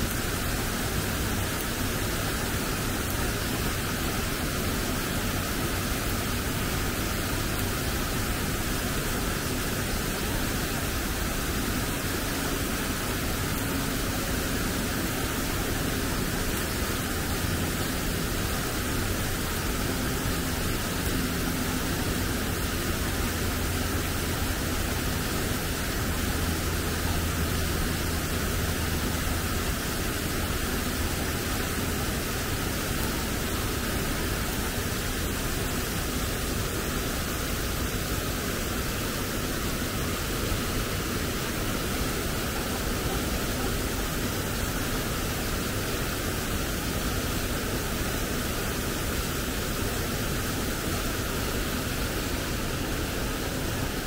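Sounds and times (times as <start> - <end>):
water rushing from fountain: 0.0 - 54.0.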